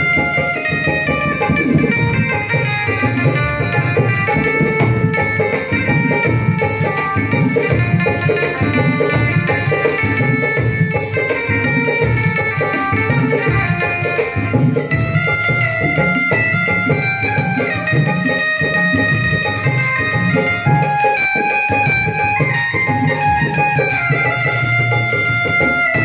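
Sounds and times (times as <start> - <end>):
banjo melody: 0.0 - 26.0
hand drum rhythm: 0.0 - 26.0.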